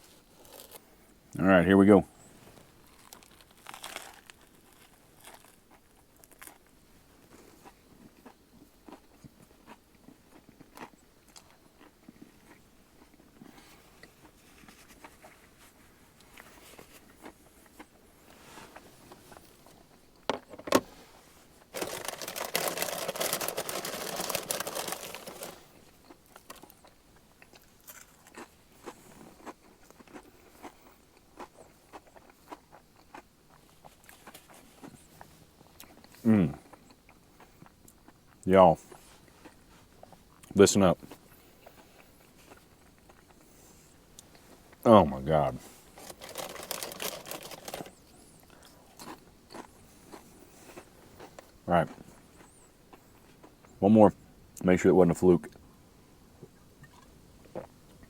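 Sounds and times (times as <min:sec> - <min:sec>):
crunchy chewing: 0:00.0 - 0:01.2, 0:02.2 - 0:20.3, 0:21.4 - 0:44.9, 0:45.5 - 0:53.8.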